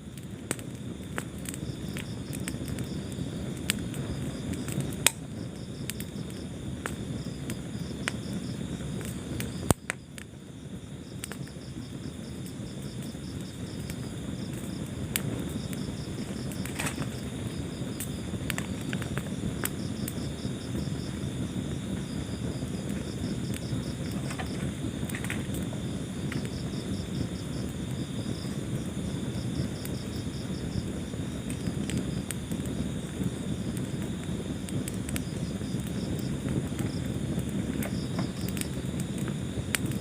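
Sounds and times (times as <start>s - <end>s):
cricket chirping: 0.0s - 40.0s
wood fire crackling and popping: 0.0s - 40.0s.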